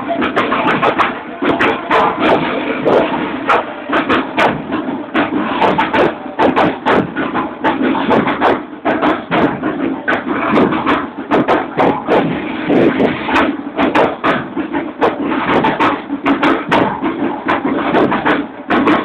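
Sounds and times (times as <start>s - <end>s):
marching band drums: 0.0s - 19.0s.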